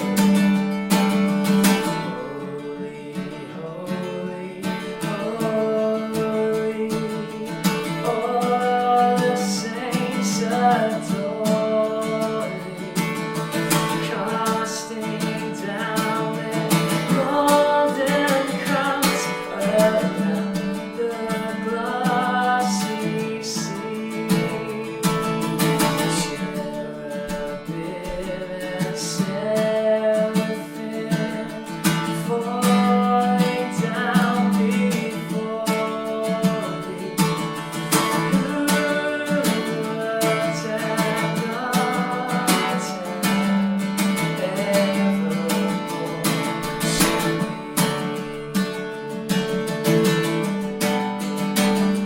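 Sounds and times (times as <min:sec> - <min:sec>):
strummed acoustic guitar: 0:00.0 - 0:52.0
person singing worship song: 0:01.9 - 0:48.0.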